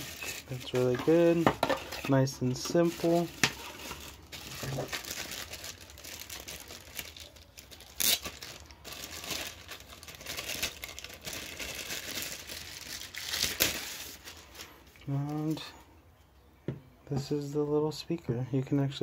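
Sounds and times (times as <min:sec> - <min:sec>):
plastic bag crinkling: 0:00.0 - 0:15.7.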